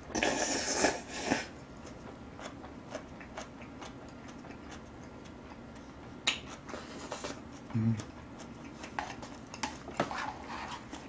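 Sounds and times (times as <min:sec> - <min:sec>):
close-up wet chewing: 0:01.7 - 0:11.0.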